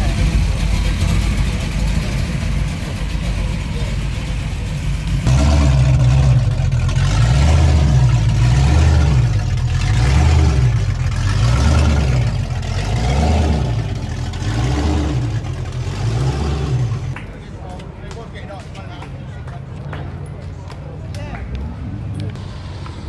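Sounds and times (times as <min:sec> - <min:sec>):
car engine rumbling: 0:00.0 - 0:17.2, 0:21.7 - 0:23.0.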